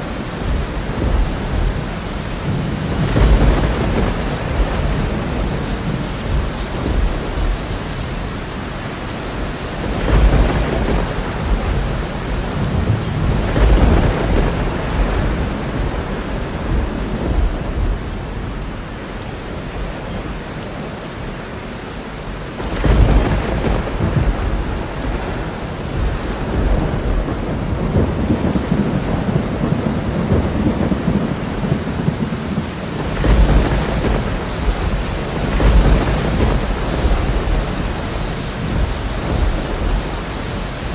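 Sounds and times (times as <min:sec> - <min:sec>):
rolls of thunder: 0:00.0 - 0:18.5, 0:22.6 - 0:40.9
heavy rain: 0:00.0 - 0:40.9.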